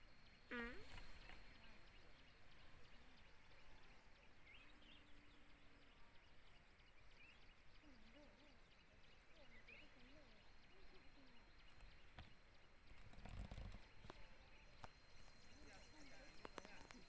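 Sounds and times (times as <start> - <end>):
faint distant voices: 0.5 - 17.0.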